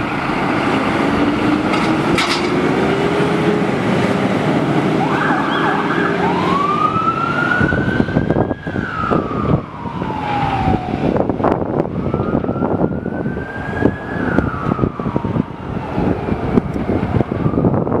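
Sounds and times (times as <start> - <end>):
fire engine siren wailing: 0.0 - 18.0
truck engine and road noise: 0.0 - 18.0.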